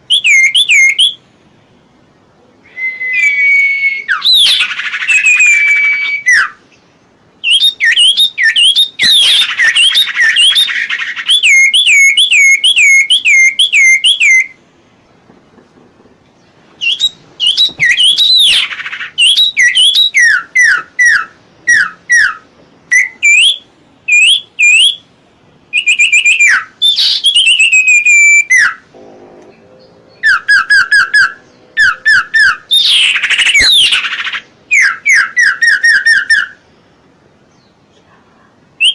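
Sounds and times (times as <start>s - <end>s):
bird singing whistled notes: 0.0s - 1.2s, 2.6s - 14.6s, 16.4s - 25.1s, 25.7s - 28.8s, 29.8s - 36.6s.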